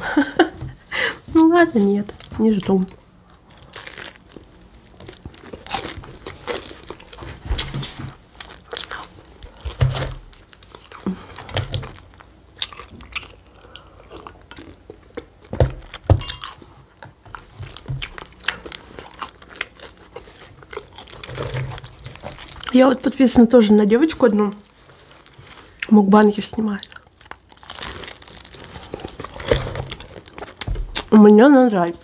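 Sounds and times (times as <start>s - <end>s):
person chewing crunchy pastry: 1.9s - 23.2s, 23.8s - 31.2s.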